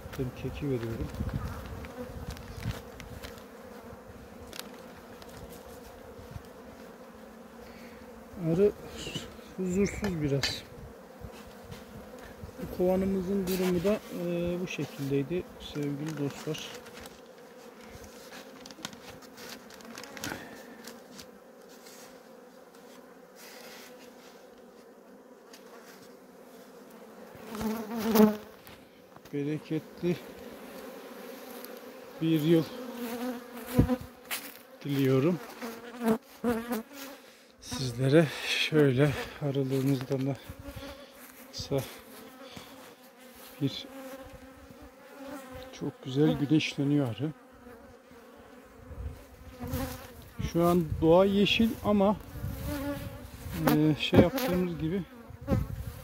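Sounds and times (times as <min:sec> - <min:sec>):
bees humming: 0:00.0 - 0:56.0.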